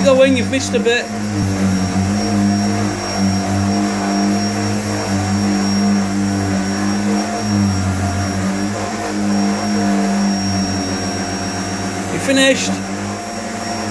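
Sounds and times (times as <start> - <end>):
vacuum cleaner running on carpet: 0.0 - 13.9.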